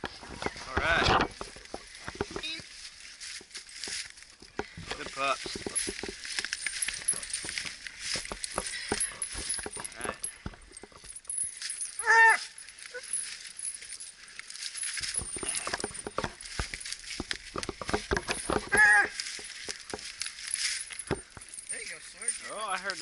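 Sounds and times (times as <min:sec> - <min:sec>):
chains rattling: 0:00.1 - 0:23.0
dry leaves crackling: 0:00.4 - 0:10.3, 0:11.0 - 0:23.0.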